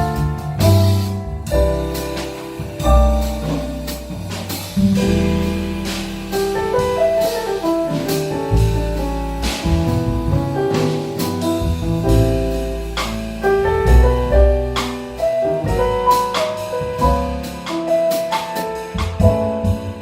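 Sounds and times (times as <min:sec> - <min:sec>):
deep bass notes: 0:00.0 - 0:17.9, 0:18.8 - 0:20.0
cymbal and drum strikes: 0:00.0 - 0:20.0
piano chords: 0:00.0 - 0:20.0.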